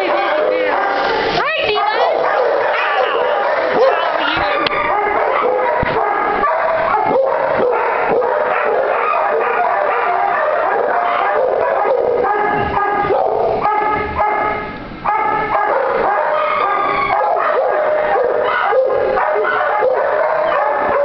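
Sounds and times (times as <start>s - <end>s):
dogs barking and howling: 0.0s - 21.0s.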